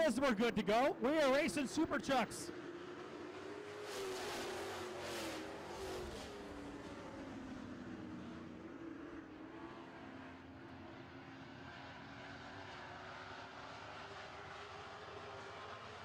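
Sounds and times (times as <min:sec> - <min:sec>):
racing truck engines droning: 0:00.0 - 0:16.0.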